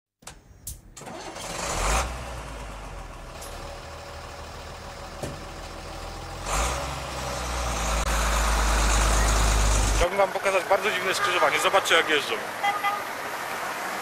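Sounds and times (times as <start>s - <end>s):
diesel engine idling: 1.1s - 14.0s.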